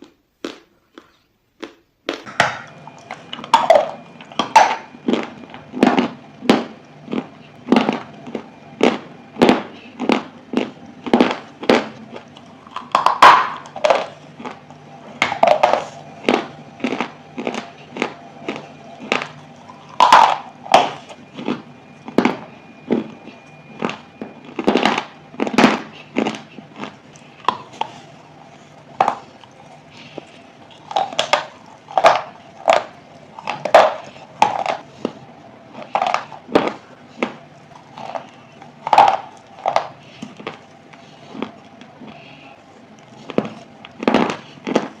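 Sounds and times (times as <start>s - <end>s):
person chewing hard chalk: 0.0s - 45.0s.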